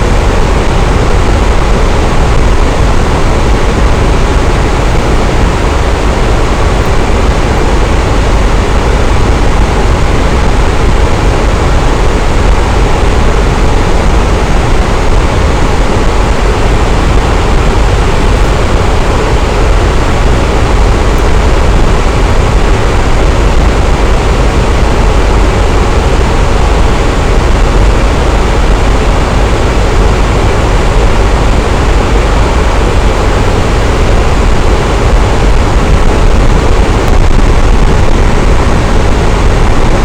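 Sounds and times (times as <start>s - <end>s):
electric fan running: 0.0s - 40.0s.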